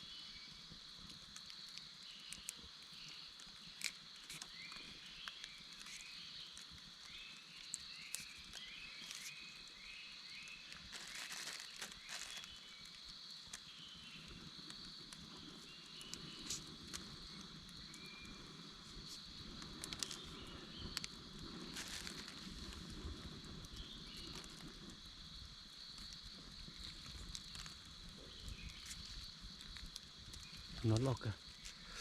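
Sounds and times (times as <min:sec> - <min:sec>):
high insect drone: 0:00.0 - 0:32.0
rustles of leaves and twigs: 0:00.0 - 0:32.0.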